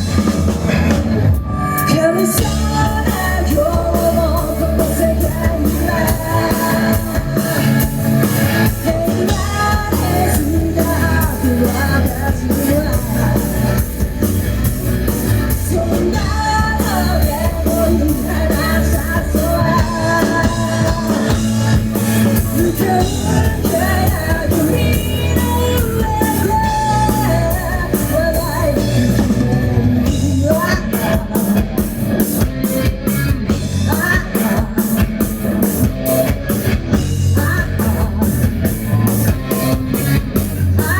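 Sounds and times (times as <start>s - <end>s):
rock band playing live: 0.0s - 40.9s
person singing: 1.6s - 14.1s, 15.4s - 32.1s, 33.8s - 36.5s, 37.3s - 40.9s.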